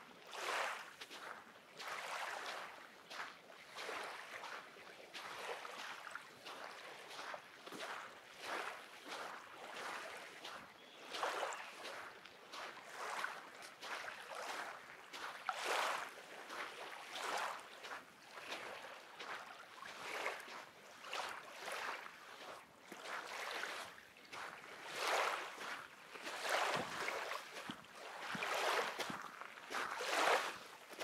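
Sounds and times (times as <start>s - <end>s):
small waves washing onto beach: 0.0s - 31.0s.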